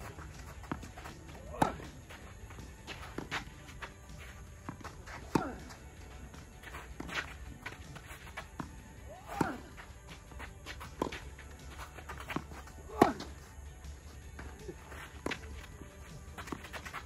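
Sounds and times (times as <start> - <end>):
rackets hitting tennis balls: 0.0 - 17.0
tennis balls bouncing on court: 0.0 - 17.0.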